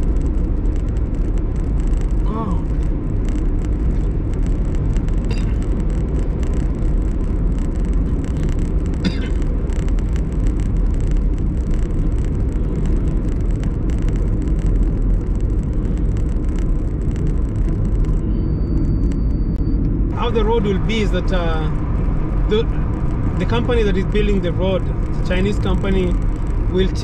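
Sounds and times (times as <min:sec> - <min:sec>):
car interior road rumble: 0:00.0 - 0:27.0.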